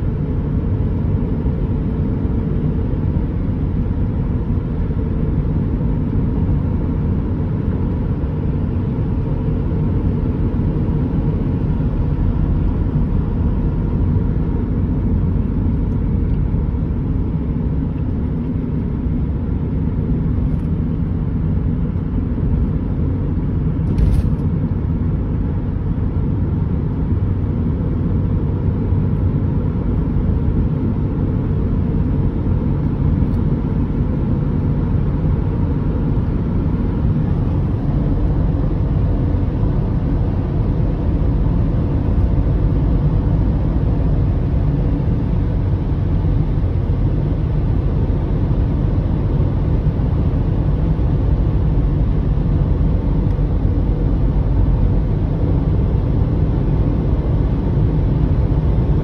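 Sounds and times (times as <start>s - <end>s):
vehicle engine noise: 0.0s - 59.0s.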